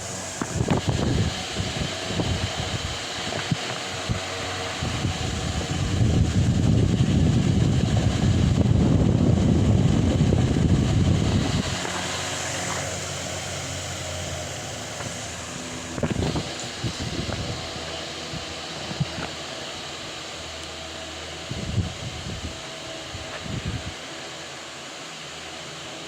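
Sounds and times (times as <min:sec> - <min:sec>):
airflow buffeting microphone: 0:00.0 - 0:26.0
wall fan whirring: 0:00.0 - 0:26.0.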